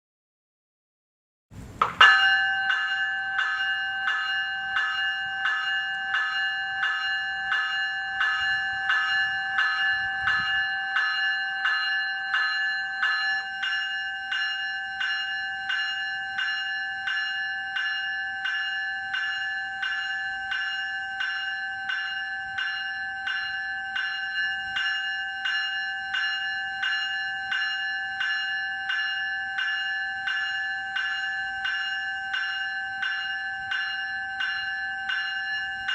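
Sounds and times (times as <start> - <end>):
electric alarm bell ringing: 2.0 - 35.9.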